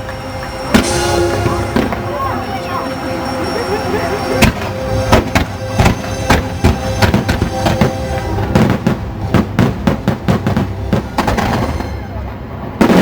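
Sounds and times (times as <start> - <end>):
loud show music: 0.0 - 12.9
fireworks bangs: 0.0 - 13.0.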